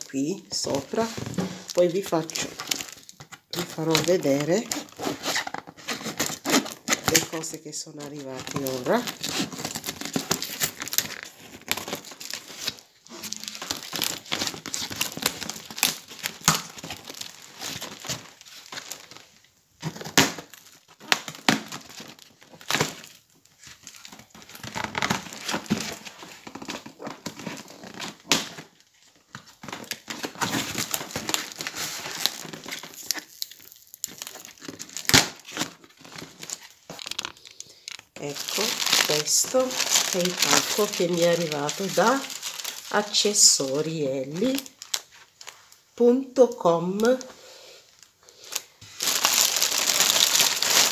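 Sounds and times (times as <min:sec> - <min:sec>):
plastic wrap crinkling: 0:00.0 - 0:50.9
packing tape tearing: 0:01.0 - 0:07.5, 0:08.2 - 0:19.2, 0:19.8 - 0:23.2, 0:23.8 - 0:43.1, 0:48.5 - 0:50.9.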